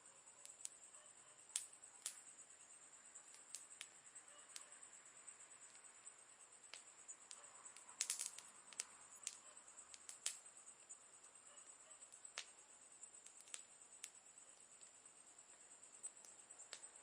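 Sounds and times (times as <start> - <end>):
faint high hiss: 0.0 - 17.0
campfire crackling: 0.2 - 17.0.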